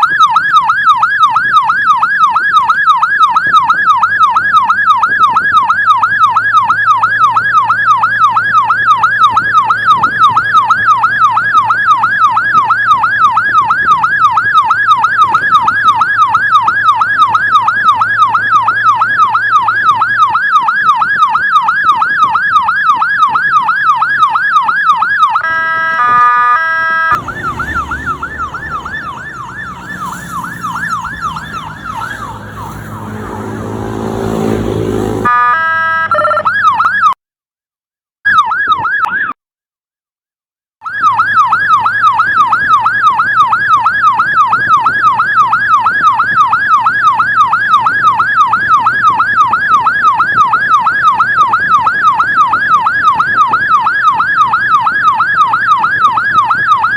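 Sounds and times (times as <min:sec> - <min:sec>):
road and engine rumble: 0:00.0 - 0:36.8, 0:40.9 - 0:56.9
siren yelping: 0:00.0 - 0:37.2, 0:38.3 - 0:39.4, 0:40.8 - 0:56.9.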